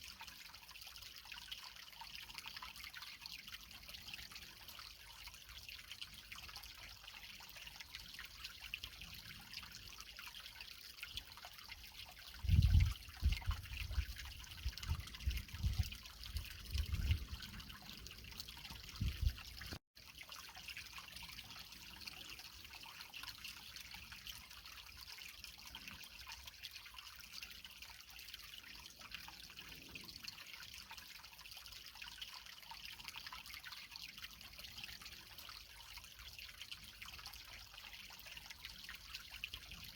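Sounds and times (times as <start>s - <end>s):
creek water trickling over rocks: 0.0s - 39.9s.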